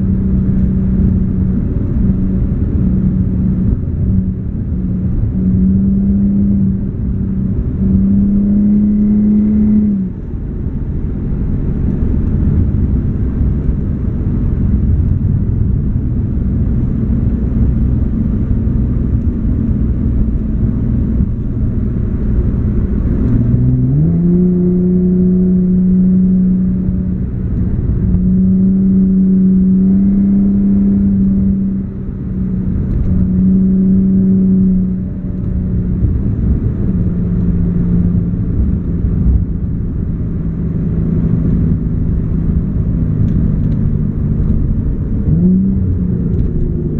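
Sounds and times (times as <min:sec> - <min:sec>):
car engine heard from cabin: 0:00.0 - 0:46.9
road noise: 0:00.0 - 0:46.9.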